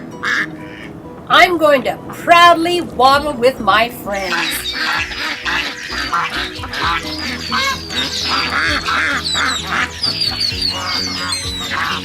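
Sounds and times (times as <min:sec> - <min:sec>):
ducks quacking: 0:00.0 - 0:00.9, 0:03.2 - 0:12.0
background music: 0:00.0 - 0:12.0.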